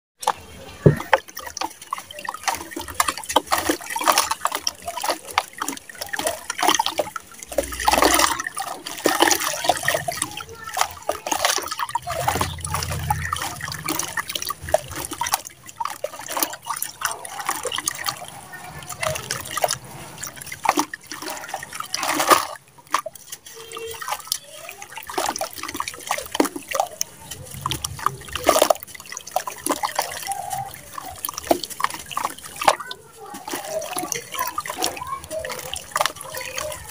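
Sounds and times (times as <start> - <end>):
water splashing and dripping: 0.2 - 36.9.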